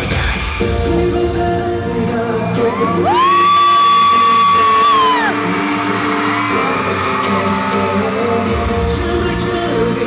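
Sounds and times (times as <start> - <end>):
live pop song: 0.0 - 10.0.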